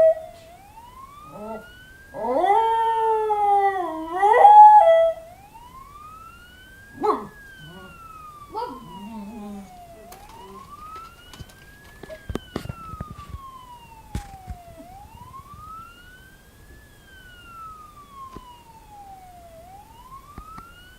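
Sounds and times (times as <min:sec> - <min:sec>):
siren wailing: 0:00.0 - 0:20.9.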